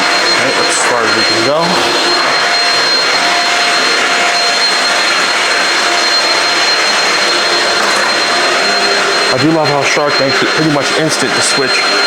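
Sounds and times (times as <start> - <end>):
stick vacuum running: 0.0 - 12.0.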